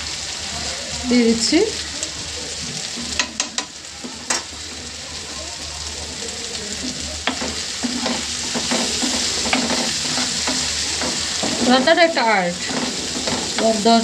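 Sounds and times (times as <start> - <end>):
food sizzling in a frying pan: 0.0 - 14.0
wooden spatula stirring food: 1.8 - 14.0.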